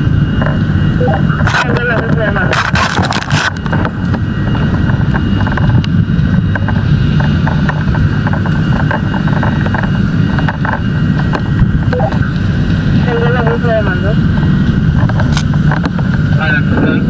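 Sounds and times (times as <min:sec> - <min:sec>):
heavy engine rumbling: 0:00.0 - 0:17.0.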